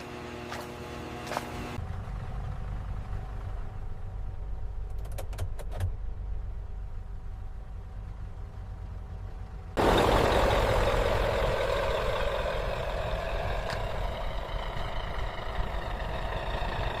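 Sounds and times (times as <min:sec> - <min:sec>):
heavy vehicle engine rumbling: 0:00.7 - 0:17.0.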